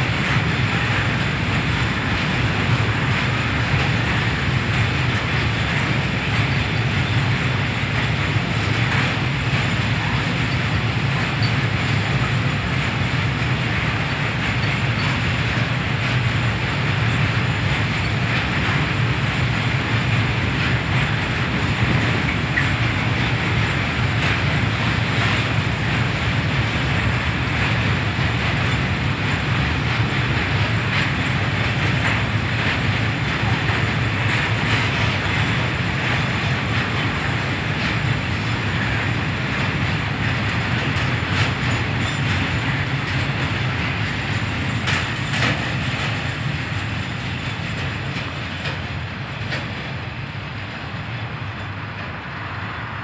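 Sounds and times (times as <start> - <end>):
wheels clicking and knocking: 0.0 - 52.6
freight wagons rumbling on rails: 0.0 - 53.0.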